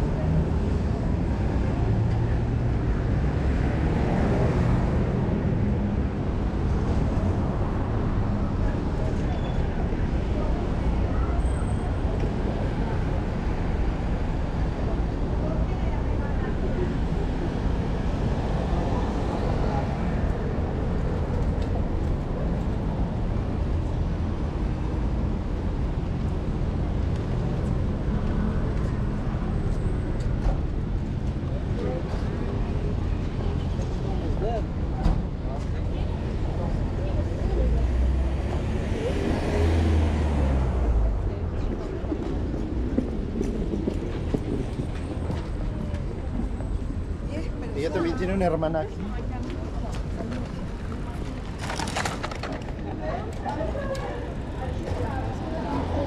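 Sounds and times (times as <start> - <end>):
road traffic hum: 0.0 - 56.0.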